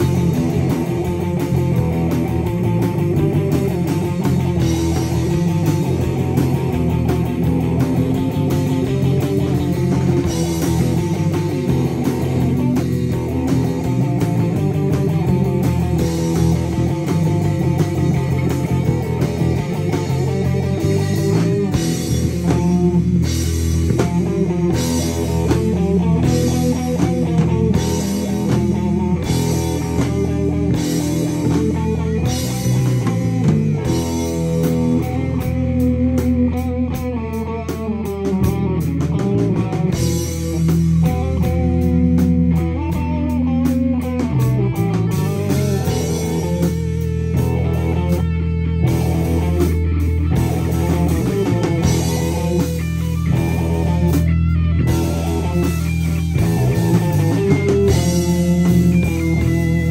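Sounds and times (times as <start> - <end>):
drum kit steady beat: 0.0 - 59.9
electric bass: 0.0 - 59.9
electric guitars: 0.0 - 59.9.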